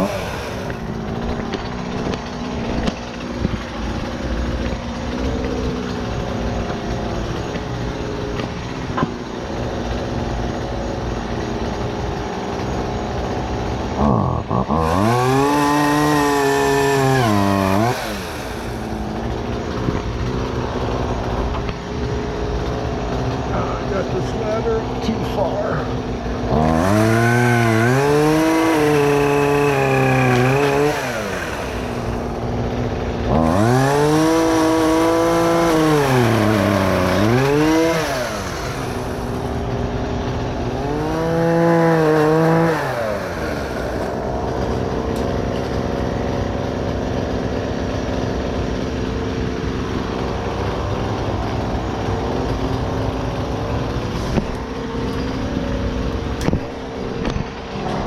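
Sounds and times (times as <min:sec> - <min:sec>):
small gasoline engine revving: 0:00.0 - 0:58.0.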